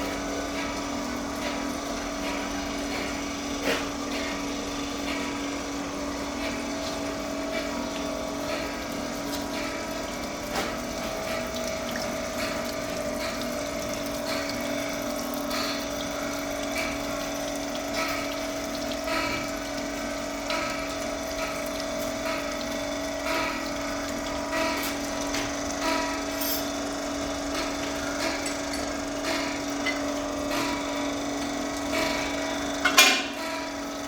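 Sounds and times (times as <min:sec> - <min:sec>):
milling machine motor hum: 0:00.0 - 0:34.0.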